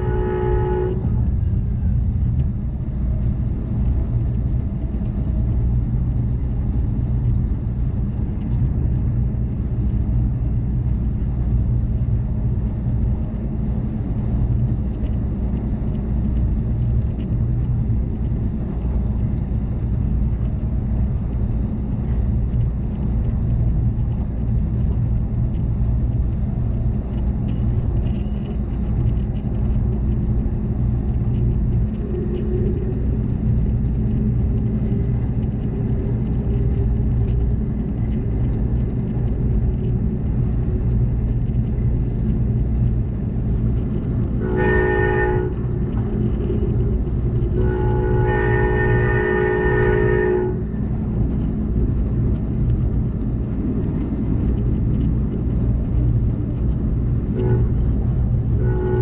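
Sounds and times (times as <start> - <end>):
train rumble inside coach: 0.0 - 59.0.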